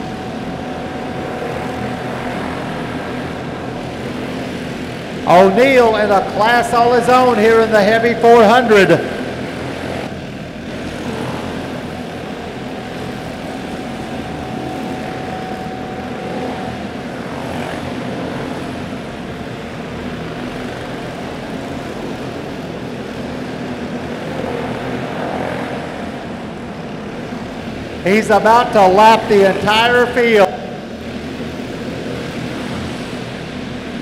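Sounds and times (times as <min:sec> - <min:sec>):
kart engines droning: 0:00.0 - 0:34.0.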